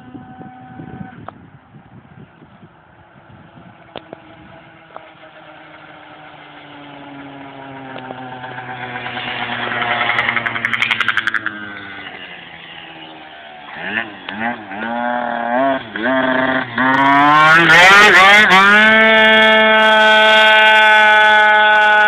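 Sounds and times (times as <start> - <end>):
scooter engine passing by: 2.6 - 22.0.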